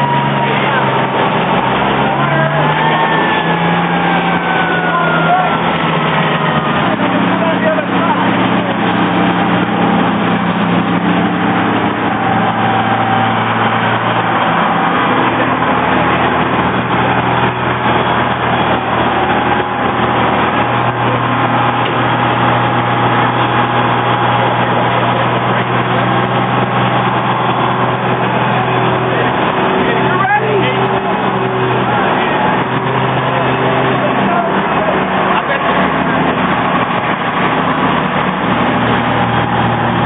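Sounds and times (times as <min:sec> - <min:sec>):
fire engine running: 0:00.0 - 0:40.0.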